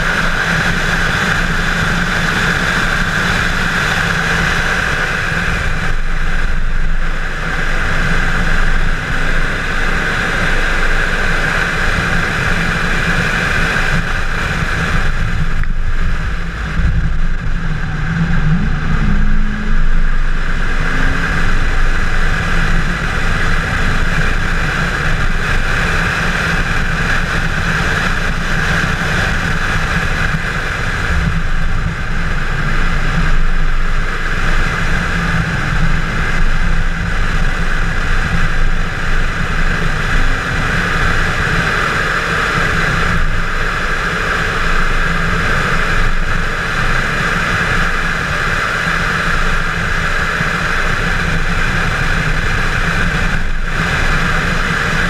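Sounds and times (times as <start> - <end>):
car engine at speed: 0.0 - 55.0
wind noise: 0.0 - 55.0.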